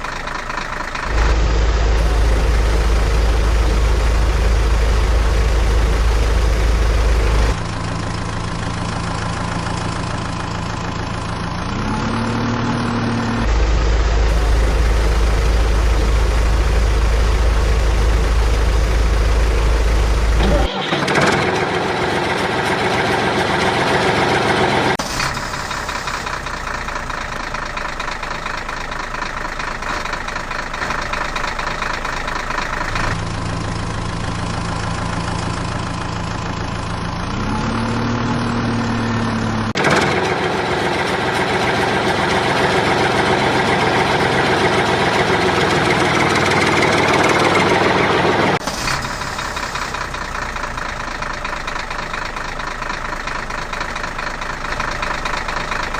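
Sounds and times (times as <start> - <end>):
engine revving: 0.0 - 36.0, 36.6 - 55.9
heavy vehicle engine humming: 0.0 - 55.9.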